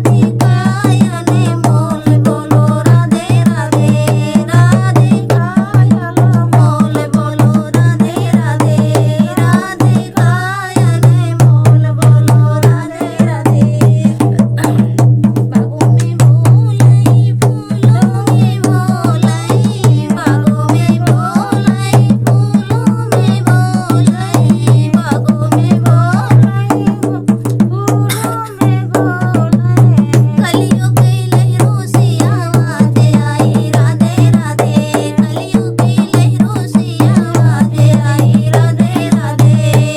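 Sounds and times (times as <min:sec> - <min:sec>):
percussion strokes: 0:00.0 - 0:39.9
person singing devotional song: 0:00.0 - 0:39.9.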